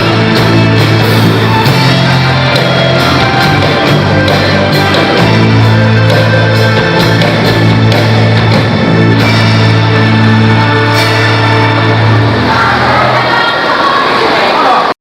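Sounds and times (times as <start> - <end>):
steady drum beat: 0.0 - 12.0
live rock band: 0.0 - 13.4
bass notes: 0.0 - 13.8.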